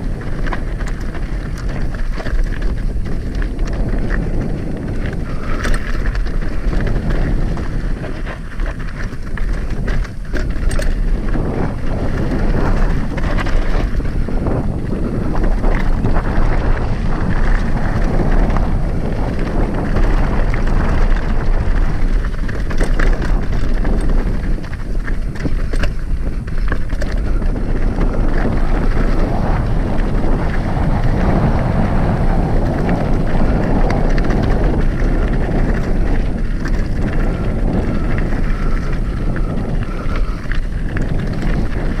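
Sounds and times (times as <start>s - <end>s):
mountain bike rattling over rocks: 0.0s - 42.0s
wind buffeting microphone: 0.0s - 42.0s.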